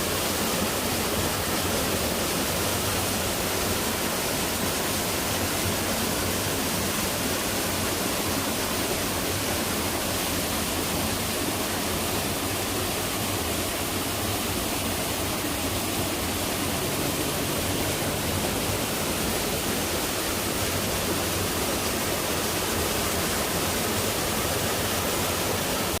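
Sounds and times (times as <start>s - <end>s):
waterfall pouring into pool: 0.0s - 26.0s.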